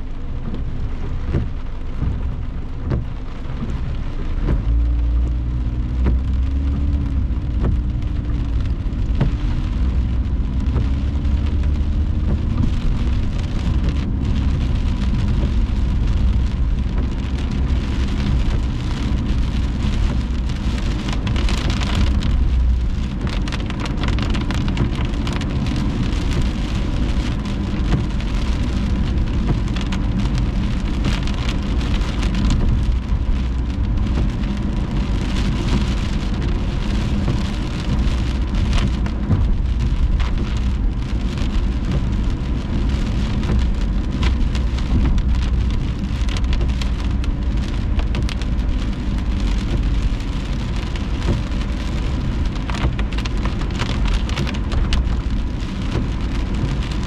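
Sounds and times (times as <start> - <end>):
rain on a moving car: 0.0 - 57.0
tyres rumbling on wet road: 0.0 - 57.0.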